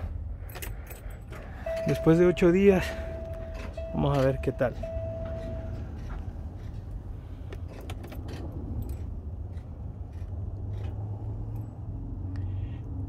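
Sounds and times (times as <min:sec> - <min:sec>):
steady low rumble: 0:00.0 - 0:13.0
keys jangling: 0:00.4 - 0:10.9.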